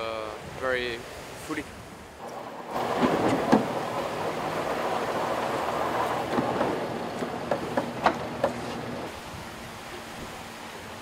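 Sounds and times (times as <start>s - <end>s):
water and wind rushing: 0.0s - 11.0s.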